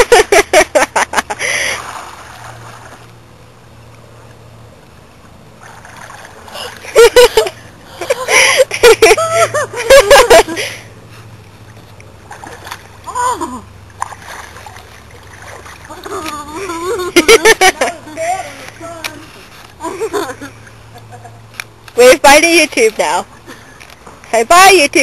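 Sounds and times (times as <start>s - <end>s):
pool water splashing: 0.0s - 25.0s.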